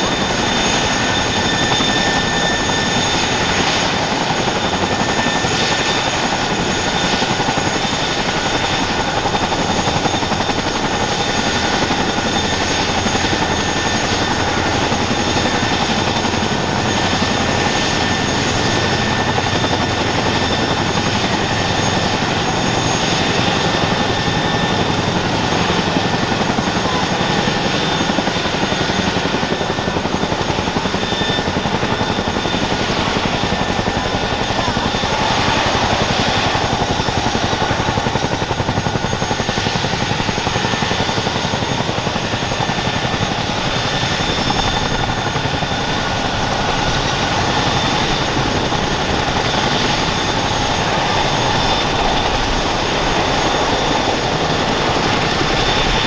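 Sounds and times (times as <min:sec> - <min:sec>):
helicopter engine whine: 0:00.0 - 0:56.0
loud rotor noise: 0:00.0 - 0:56.0.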